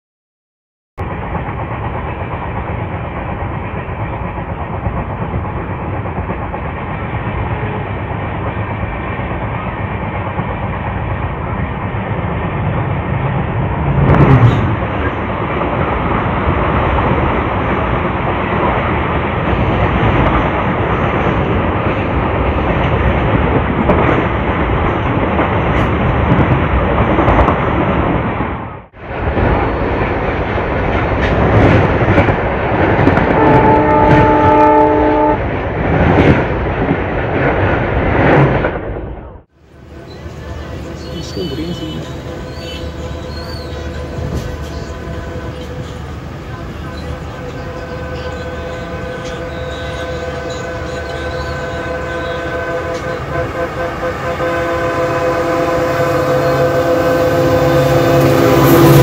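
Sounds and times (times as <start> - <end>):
clickety-clack over rail joints: 1.0 - 39.3, 40.4 - 53.6
diesel goods train rushing past: 1.0 - 59.0
passenger train sweeping past: 1.0 - 59.0
train wheels on rails: 1.0 - 59.0.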